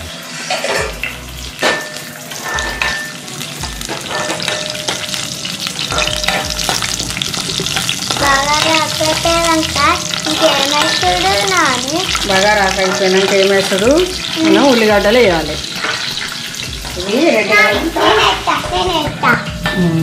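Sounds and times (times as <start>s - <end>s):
metal ladle scraping a pan: 0.0s - 19.8s
spices sizzling in hot oil: 0.0s - 20.0s.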